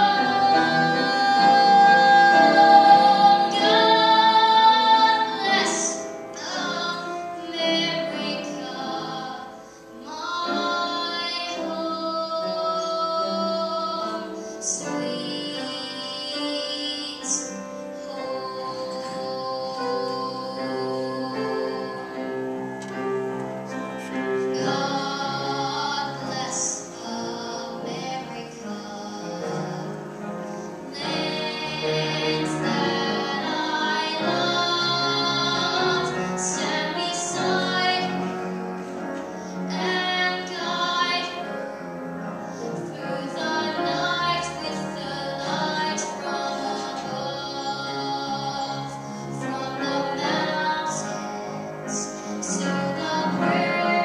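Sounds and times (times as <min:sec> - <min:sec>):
instrumental accompaniment: 0:00.0 - 0:54.0
person singing classical song: 0:00.0 - 0:54.0.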